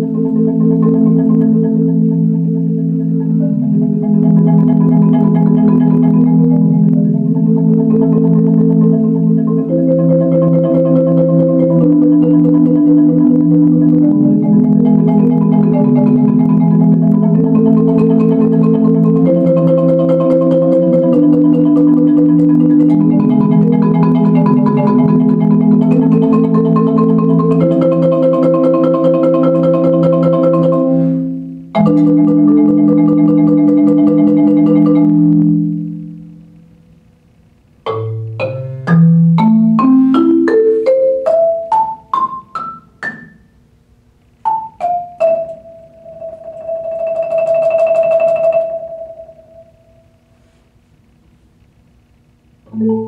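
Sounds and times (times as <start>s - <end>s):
marimba playing sustained chords: 0.0s - 36.4s, 37.9s - 43.5s, 44.5s - 50.0s, 52.7s - 53.0s.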